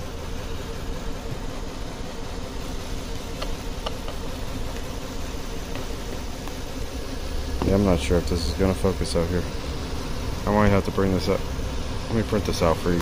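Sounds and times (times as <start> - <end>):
car engine idling with misfire: 0.0 - 13.0.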